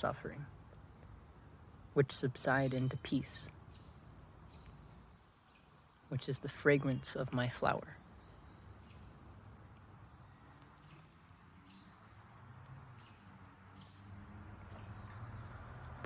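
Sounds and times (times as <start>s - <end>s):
cricket chirps: 0.0s - 16.0s
crickets trilling: 0.0s - 16.0s.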